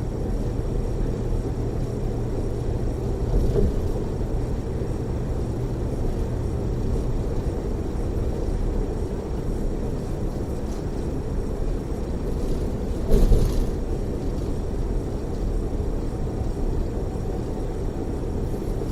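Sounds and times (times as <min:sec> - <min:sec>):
low rumble of road and engine: 0:00.0 - 0:18.9.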